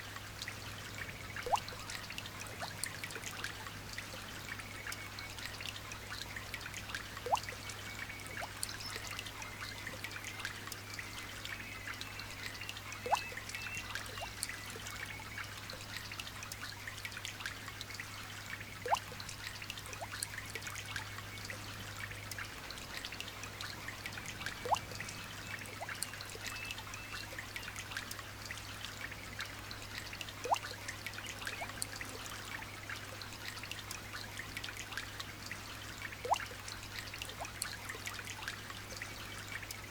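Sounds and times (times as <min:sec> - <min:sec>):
light rain dripping: 0:00.0 - 0:39.9.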